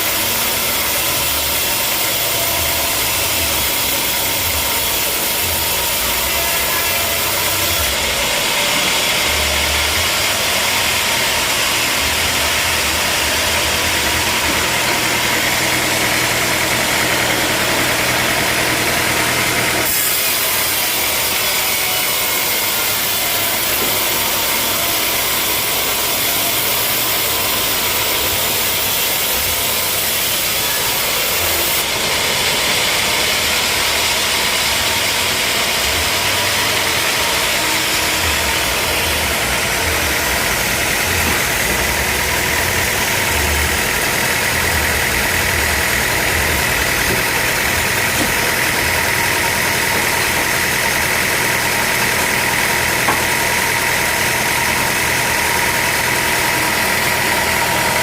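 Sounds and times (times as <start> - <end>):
sawmill engine drone: 0.0 - 58.0.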